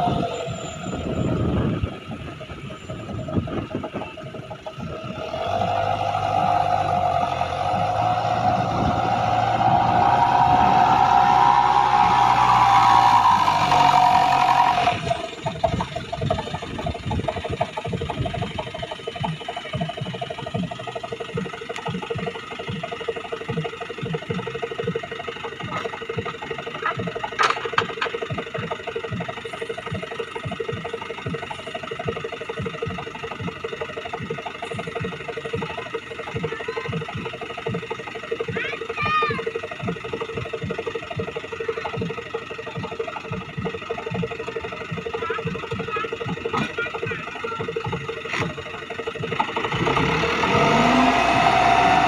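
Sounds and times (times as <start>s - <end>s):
diesel truck engine: 0.0s - 52.0s.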